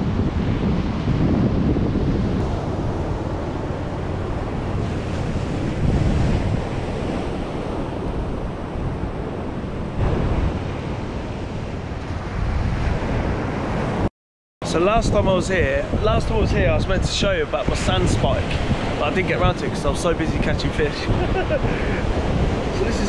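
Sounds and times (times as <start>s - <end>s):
wind rumbling on microphone: 0.0s - 23.0s
surf washing onto beach: 0.1s - 14.0s, 14.7s - 23.0s.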